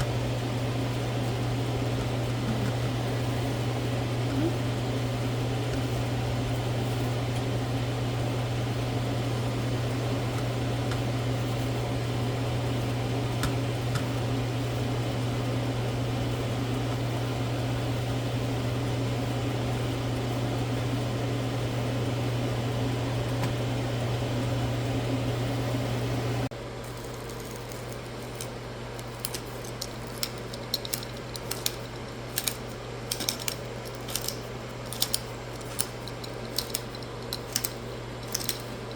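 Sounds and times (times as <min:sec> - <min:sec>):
kitchen appliance electric hum: 0:00.0 - 0:38.9.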